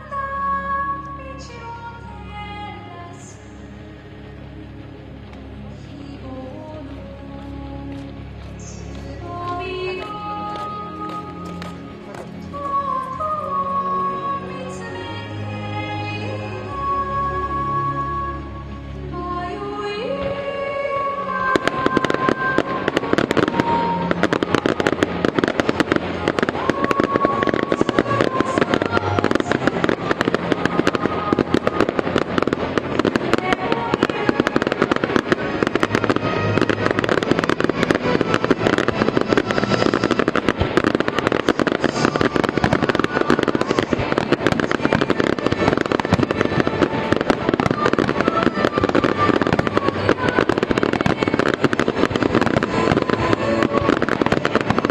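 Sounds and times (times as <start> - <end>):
fireworks crackling and popping: 0.0 - 18.1, 18.7 - 54.9
music playing: 0.0 - 54.9.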